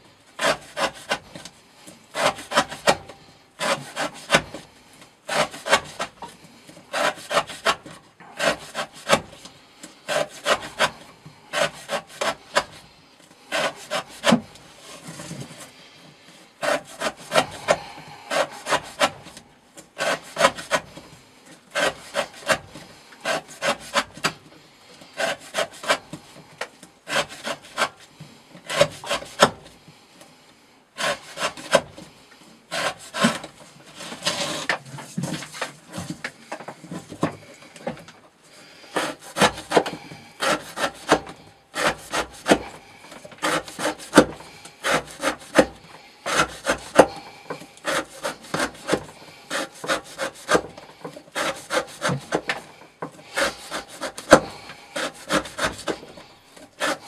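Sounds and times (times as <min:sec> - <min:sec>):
knife cutting through rope: 0:00.4 - 0:01.5, 0:02.1 - 0:04.7, 0:05.3 - 0:12.8, 0:13.5 - 0:15.8, 0:16.6 - 0:21.1, 0:21.7 - 0:24.4, 0:25.2 - 0:26.3, 0:27.1 - 0:29.7, 0:31.0 - 0:32.0, 0:32.7 - 0:38.0, 0:38.9 - 0:57.0.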